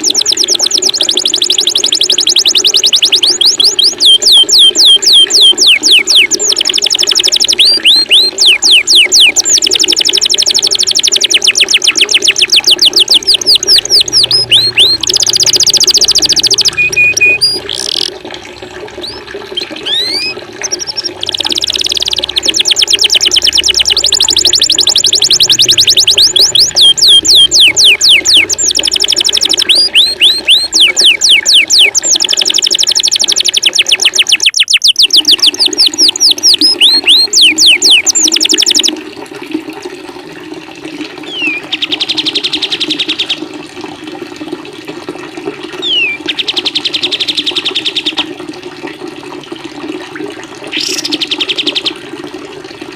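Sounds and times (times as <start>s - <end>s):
songbirds trilling: 0.0s - 18.1s, 19.0s - 38.9s, 41.3s - 43.4s, 45.8s - 48.2s, 50.7s - 51.9s
running water: 0.0s - 52.9s.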